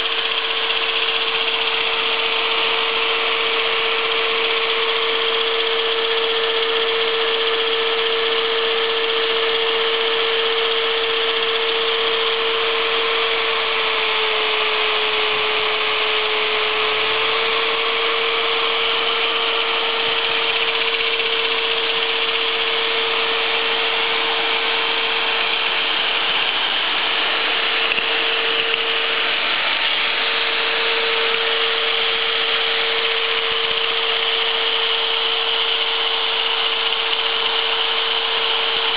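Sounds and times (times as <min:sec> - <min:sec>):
angle grinder whining: 0:00.0 - 0:38.9
electric drill running: 0:00.0 - 0:38.9.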